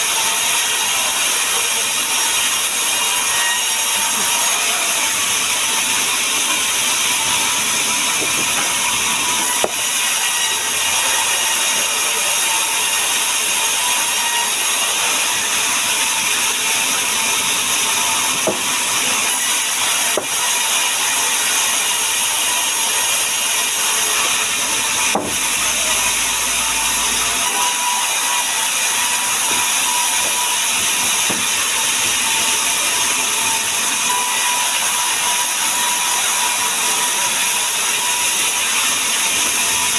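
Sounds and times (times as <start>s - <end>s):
woodworking machine cutting wood: 0.0s - 39.9s.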